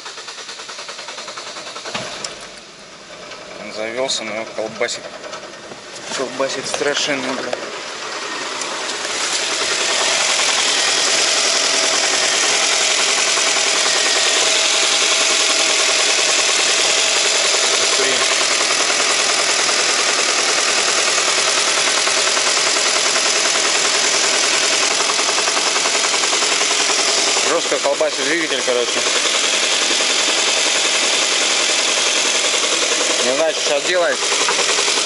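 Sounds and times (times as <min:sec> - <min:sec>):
car engine idling roughly: 0:00.0 - 0:35.0.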